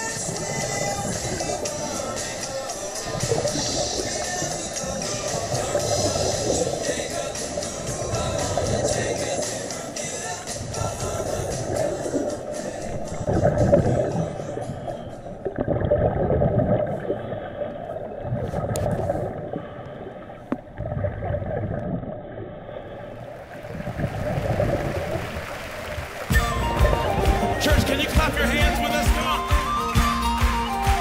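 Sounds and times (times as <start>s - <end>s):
underwater rumbling and gurgling: 0.0s - 27.6s.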